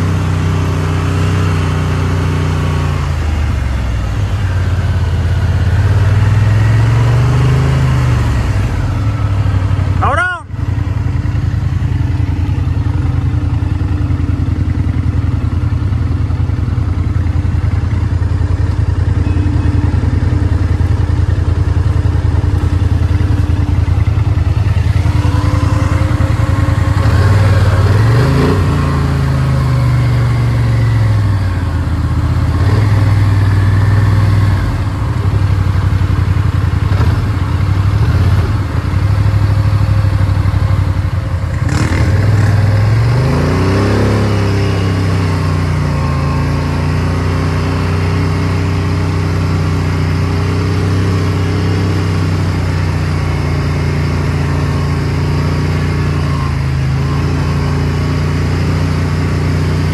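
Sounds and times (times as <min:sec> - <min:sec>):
atv engine idling and revving: 0:00.0 - 0:59.9.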